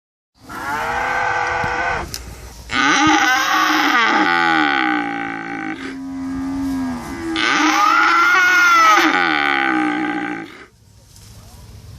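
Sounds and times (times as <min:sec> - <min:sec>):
cows mooing: 0:00.4 - 0:02.1, 0:02.7 - 0:10.7.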